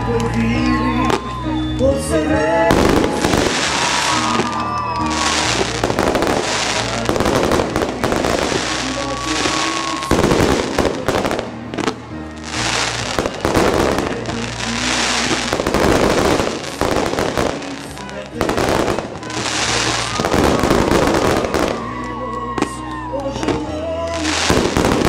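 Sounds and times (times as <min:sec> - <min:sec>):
music playing: 0:00.0 - 0:25.0
fireworks bursting and crackling: 0:02.6 - 0:25.0.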